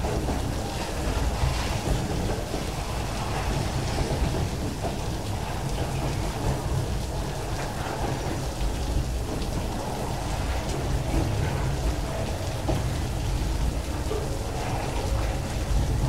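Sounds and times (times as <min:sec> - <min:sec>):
freight wagons rumbling on rails: 0:00.0 - 0:16.0
heavy rain falling: 0:00.0 - 0:16.0.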